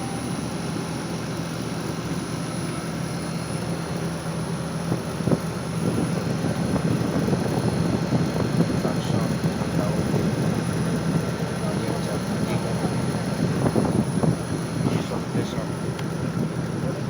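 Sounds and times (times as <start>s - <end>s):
compressor and fan hum: 0.0s - 17.0s.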